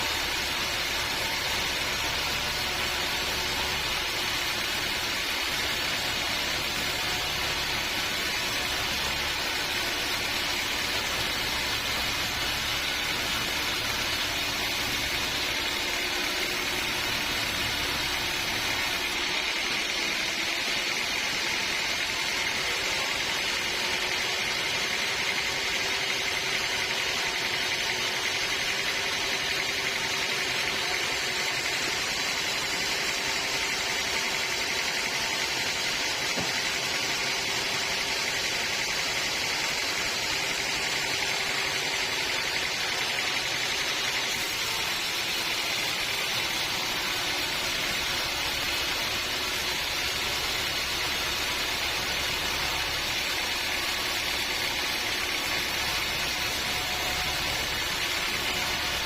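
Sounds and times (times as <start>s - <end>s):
band sawmill cutting log: 0.0s - 59.0s.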